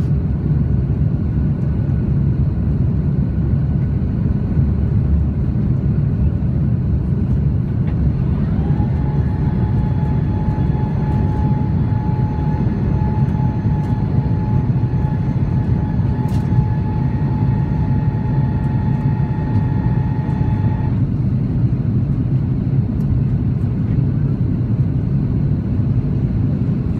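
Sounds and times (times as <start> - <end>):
jet engine cabin rumble: 0.0 - 26.9
steady whine: 0.0 - 26.9.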